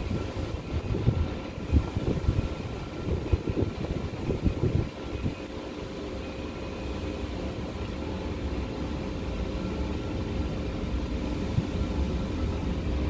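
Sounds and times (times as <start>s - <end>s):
faint constant hum: 0.0s - 13.0s
low machine rumble: 0.0s - 13.0s.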